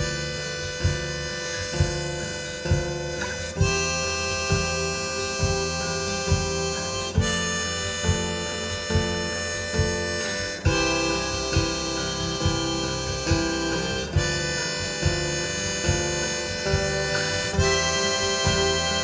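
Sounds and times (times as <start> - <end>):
acoustic band playing: 0.0 - 19.0.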